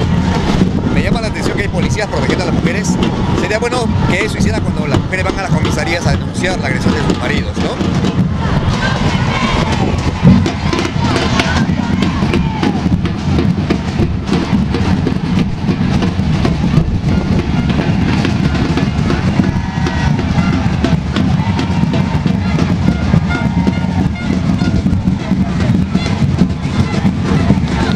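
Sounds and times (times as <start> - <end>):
music with loud drumming: 0.0 - 27.9.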